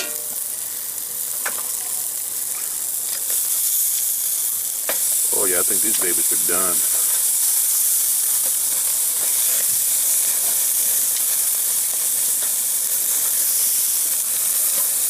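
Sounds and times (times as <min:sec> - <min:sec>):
steaks sizzling on a grill: 0:00.0 - 0:15.0.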